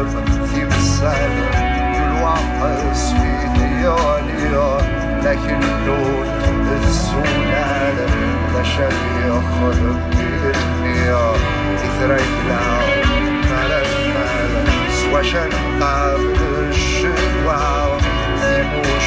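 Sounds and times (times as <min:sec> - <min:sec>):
live folk-rock band playing: 0:00.0 - 0:19.0.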